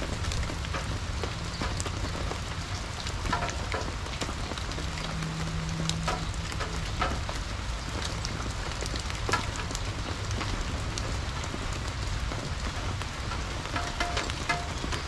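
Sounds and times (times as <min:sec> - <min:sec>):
low steady rumble: 0:00.0 - 0:14.7
raindrops ticking: 0:00.0 - 0:15.0
steady rain falling: 0:00.0 - 0:15.0.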